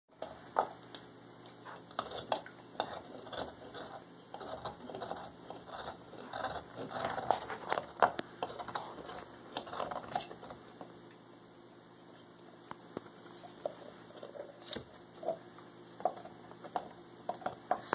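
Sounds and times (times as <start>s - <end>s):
dog gnawing chew toy: 0.2s - 11.0s, 13.2s - 17.9s.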